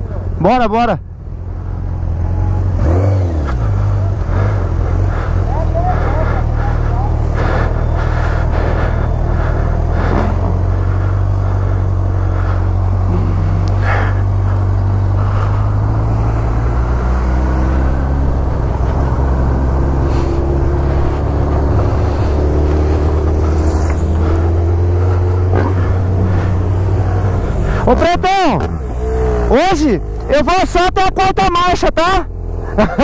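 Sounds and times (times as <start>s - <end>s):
motorcycle engines idling: 0.0s - 33.0s.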